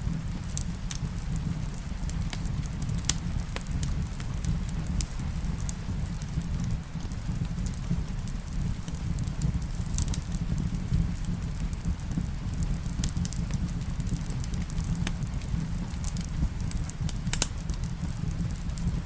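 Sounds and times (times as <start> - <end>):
rain pattering: 0.0 - 19.0
wood fire crackling: 0.0 - 19.0.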